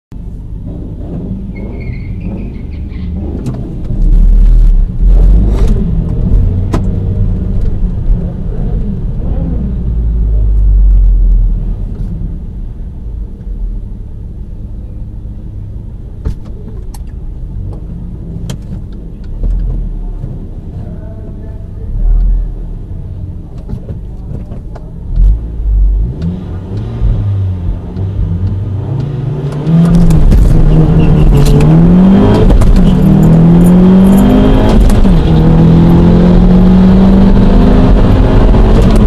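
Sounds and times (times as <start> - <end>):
car engine low rumble: 0.1 - 39.0.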